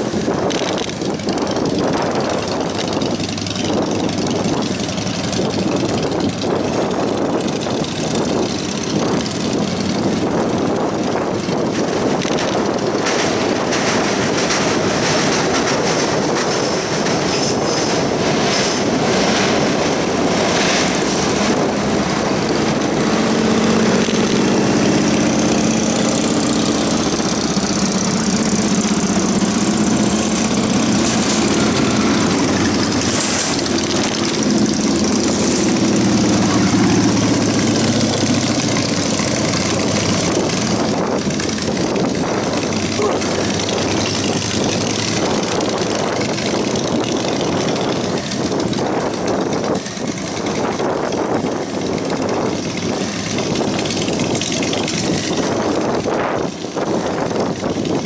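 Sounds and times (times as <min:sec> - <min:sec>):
motorcycle engine humming: 0:00.0 - 0:58.0
wind and road noise: 0:00.0 - 0:58.0.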